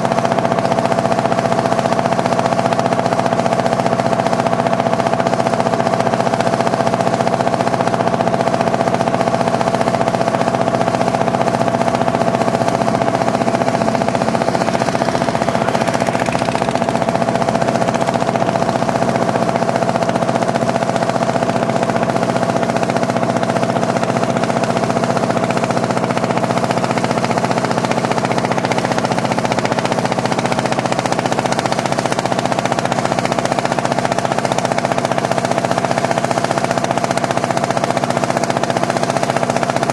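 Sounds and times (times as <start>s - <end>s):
motorboat engine putt-putt: 0.0s - 39.9s.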